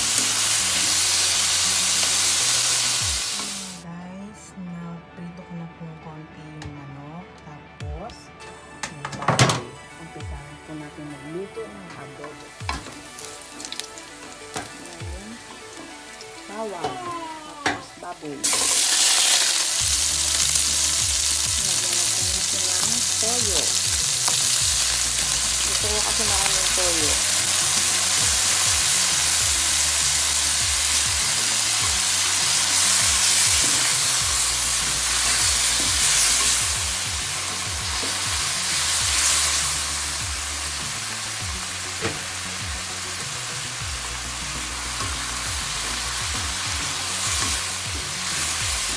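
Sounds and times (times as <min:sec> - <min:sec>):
meat sizzling in hot oil: 0:00.0 - 0:03.8, 0:12.4 - 0:48.9.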